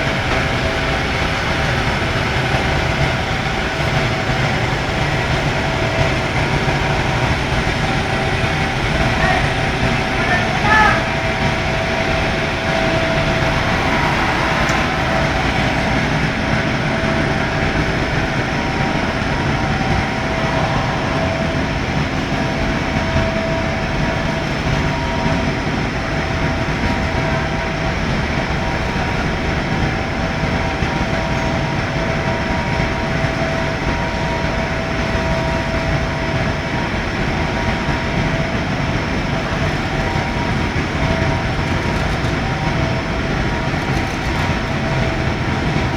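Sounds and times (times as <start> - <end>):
furnace rumbling and humming: 0.0 - 45.9.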